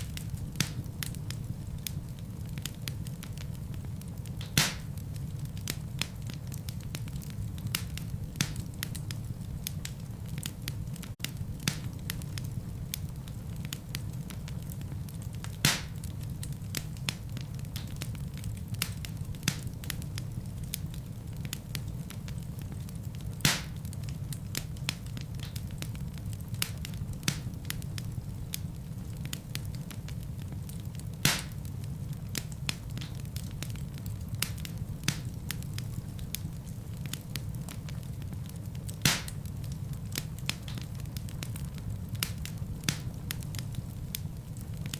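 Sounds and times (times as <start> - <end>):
fire pops: 0.0 - 44.9
wood fire crackling: 0.0 - 44.9.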